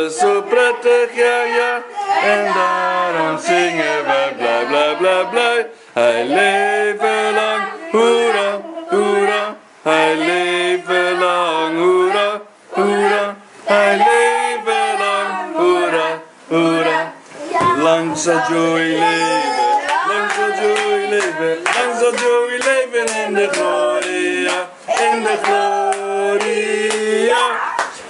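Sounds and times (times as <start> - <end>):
group singing unaccompanied: 0.0 - 28.0.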